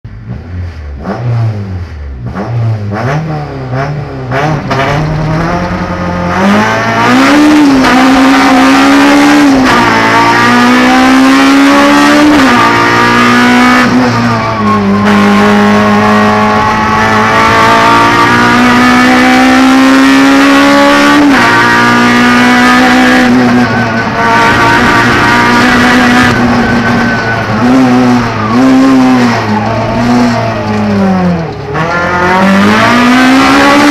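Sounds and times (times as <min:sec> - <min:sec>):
car engine revving and accelerating: 0:00.1 - 0:33.9.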